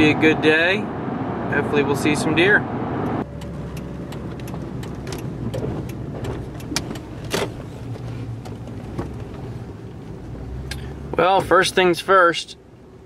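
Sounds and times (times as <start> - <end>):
vehicle engine and road hum: 0.0 - 13.0.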